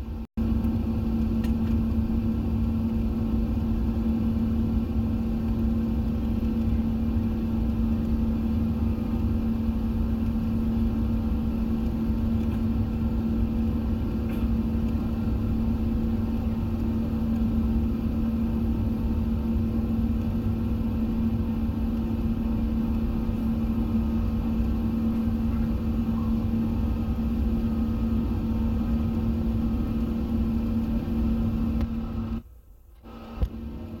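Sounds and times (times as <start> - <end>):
airplane cabin engine rumble: 0.0 - 34.0
constant low hum: 0.0 - 34.0.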